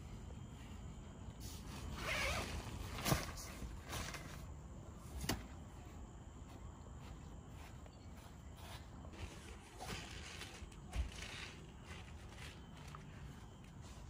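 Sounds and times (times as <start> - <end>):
tent fabric rustling: 0.0 - 5.9, 7.6 - 14.0.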